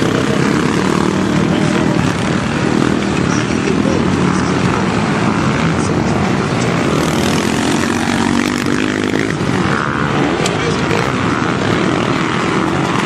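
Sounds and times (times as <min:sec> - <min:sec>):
motocross motorcycle engines: 0:00.0 - 0:13.0.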